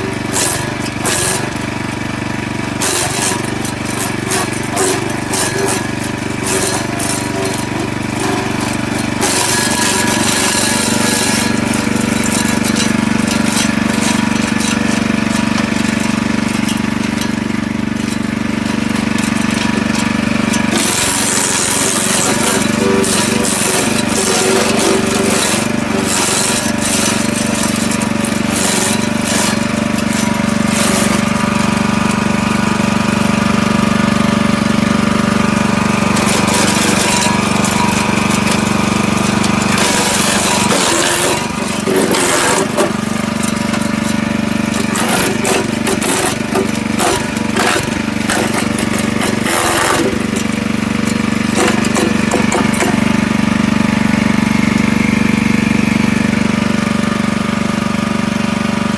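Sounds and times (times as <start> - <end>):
cutters cracking and clattering: 0.0 - 55.2
wood chipper engine running: 0.0 - 58.9.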